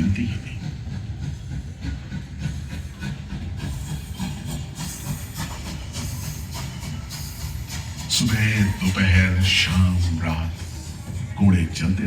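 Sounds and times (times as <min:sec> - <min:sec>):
steam hissing: 0:00.0 - 0:11.6
steam locomotive chugging: 0:00.0 - 0:12.0.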